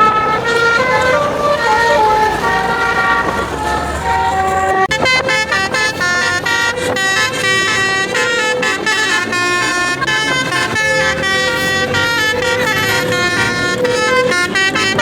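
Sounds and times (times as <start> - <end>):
bus horn playing a tune: 0.0 - 15.0.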